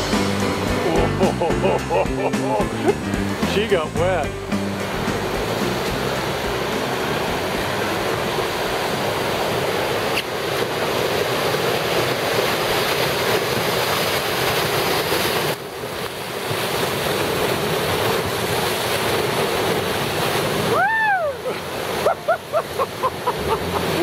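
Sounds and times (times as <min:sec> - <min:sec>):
river rapids rushing: 0:00.0 - 0:24.0.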